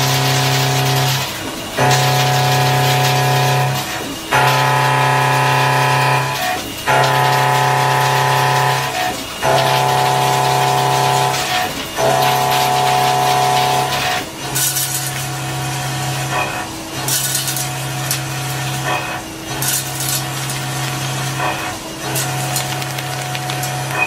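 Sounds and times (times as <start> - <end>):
milling machine cutting steel: 0.0 - 24.0.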